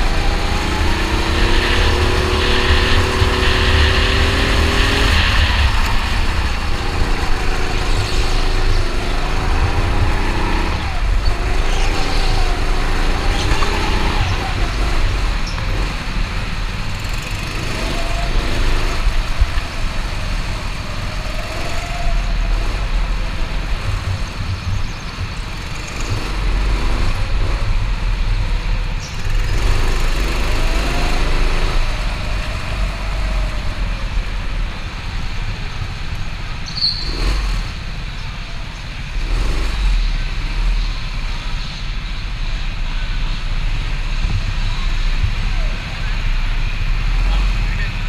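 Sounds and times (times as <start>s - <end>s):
go-kart engine running: 0.0s - 48.0s
onboard camera rumble and rattle: 0.0s - 48.0s.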